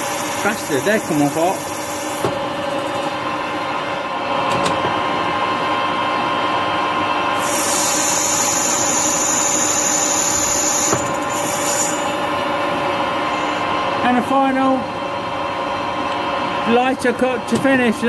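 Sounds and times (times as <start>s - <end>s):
metal lathe whine: 0.0s - 4.4s, 5.0s - 17.2s.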